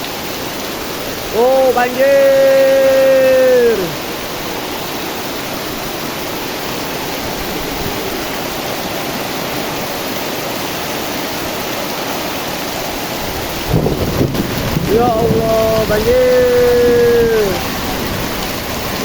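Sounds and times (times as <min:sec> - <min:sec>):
heavy rain: 0:00.0 - 0:19.0
running water: 0:00.0 - 0:19.0.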